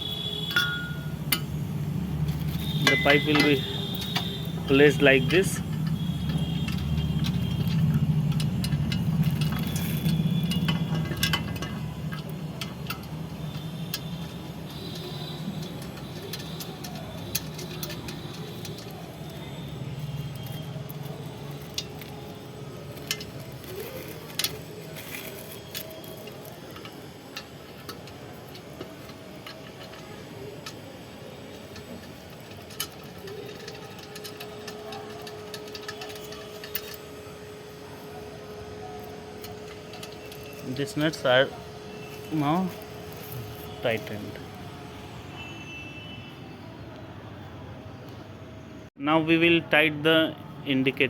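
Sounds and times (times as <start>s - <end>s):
spanner and nuts clinking: 0.0s - 45.2s.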